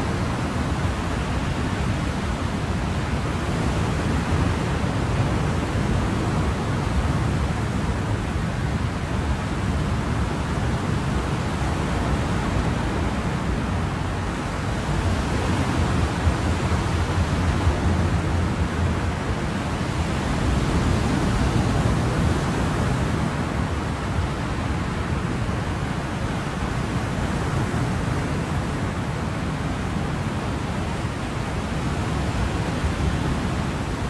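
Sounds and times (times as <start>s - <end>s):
ocean waves: 0.0s - 34.0s.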